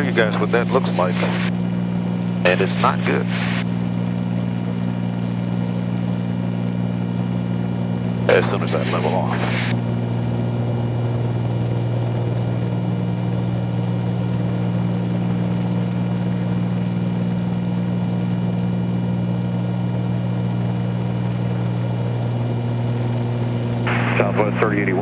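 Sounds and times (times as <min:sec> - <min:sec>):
aircraft engines droning in cabin: 0:00.0 - 0:25.0.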